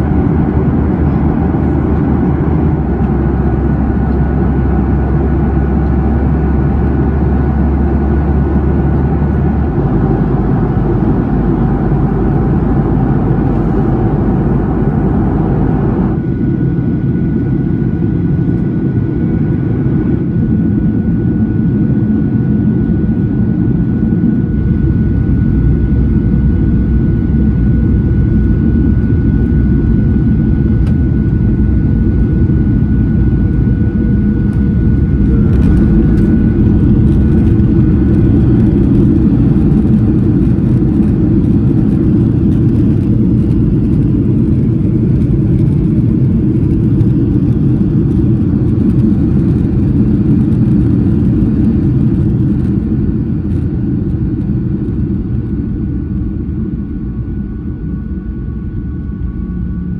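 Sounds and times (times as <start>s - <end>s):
airliner cabin engine roar: 0.0s - 59.9s.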